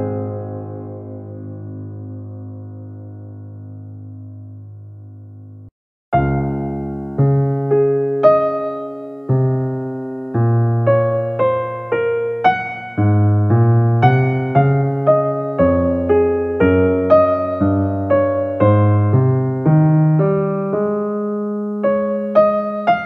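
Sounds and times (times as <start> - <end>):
slow piano melody: 0.0 - 23.0.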